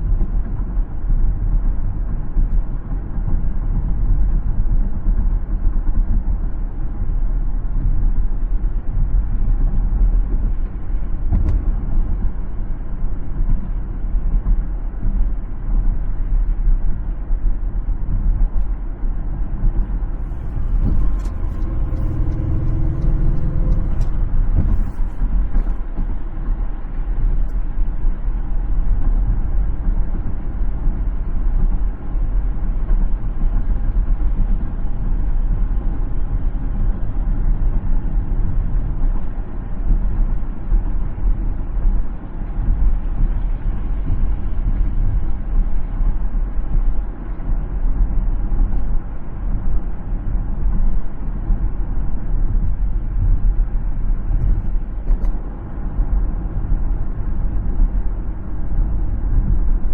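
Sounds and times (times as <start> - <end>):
car road rumble: 0.0 - 59.9
droning vehicle: 0.0 - 59.9.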